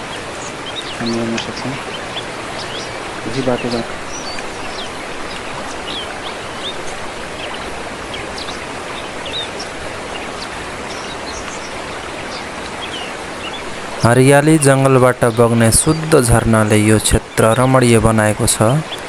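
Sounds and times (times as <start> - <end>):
small birds chirping: 0.0 - 11.7, 12.9 - 19.0
stream and waterfall rushing: 0.0 - 19.0.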